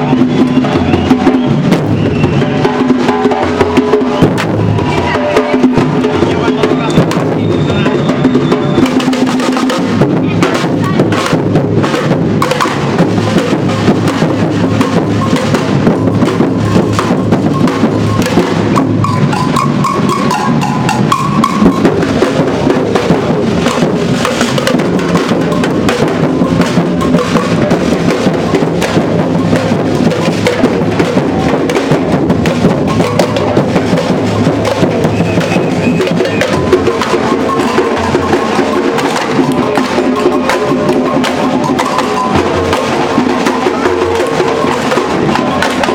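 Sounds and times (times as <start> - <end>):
bass drums beaten with mallets: 0.0 - 45.9
small drums struck with sticks: 8.1 - 45.9.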